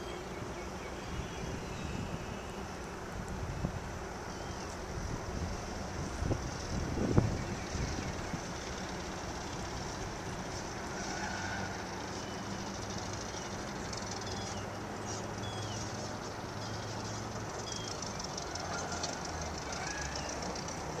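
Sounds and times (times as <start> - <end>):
birds chirping: 0.0 - 2.8, 4.2 - 4.8, 6.1 - 10.8, 11.8 - 21.0
distant light aircraft engine drone: 0.0 - 21.0
outdoor hiss: 0.0 - 21.0.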